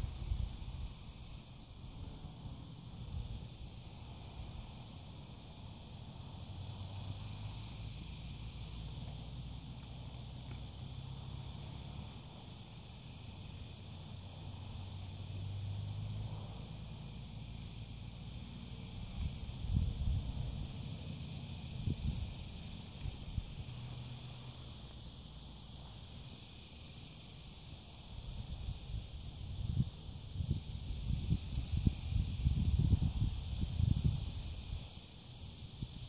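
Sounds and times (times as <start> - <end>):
insect chorus: 0.0 - 36.0.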